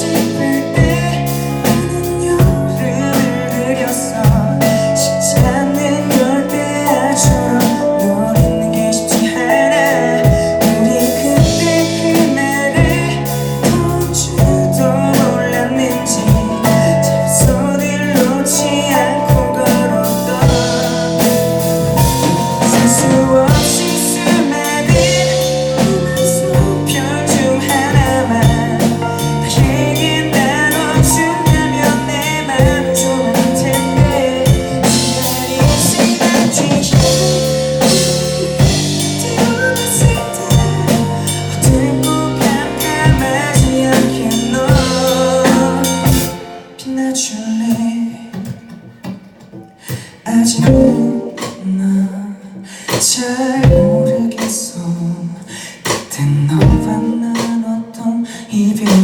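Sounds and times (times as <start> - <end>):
drum kit beat: 0.0 - 46.8, 47.7 - 51.8, 52.9 - 55.2, 55.8 - 57.7
pop band playing: 0.0 - 59.0.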